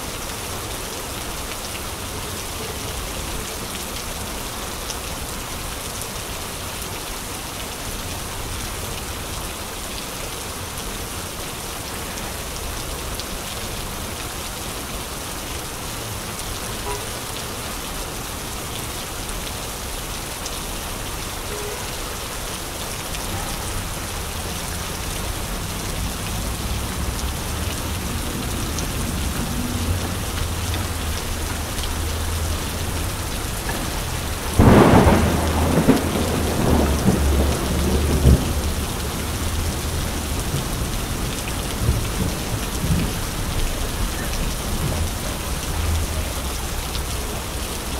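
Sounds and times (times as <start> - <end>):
rain on wet street: 0.0 - 47.9.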